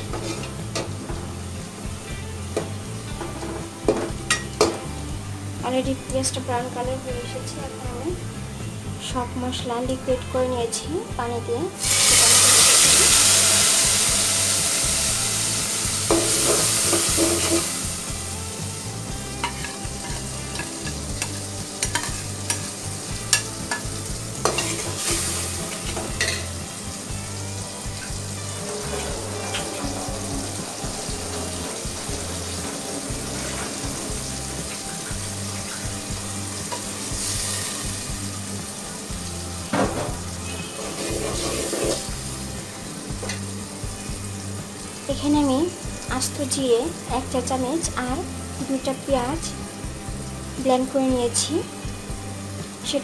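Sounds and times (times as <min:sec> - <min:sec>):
spice paste sizzling in oil: 0:00.0 - 0:53.0.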